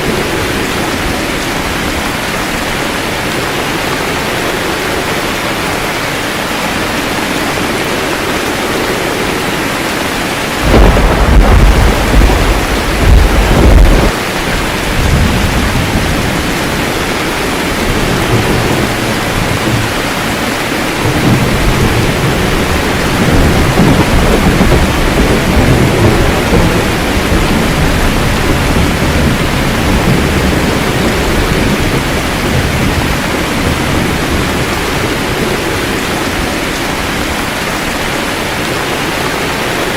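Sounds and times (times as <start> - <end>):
steady rain: 0.0 - 39.9
thunder clap and rumble: 0.0 - 39.9.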